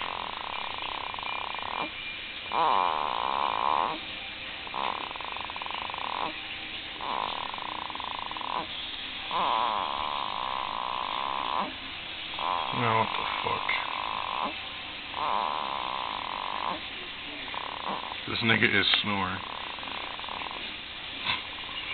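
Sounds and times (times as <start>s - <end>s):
baby snoring: 0.0s - 6.4s, 7.0s - 21.7s.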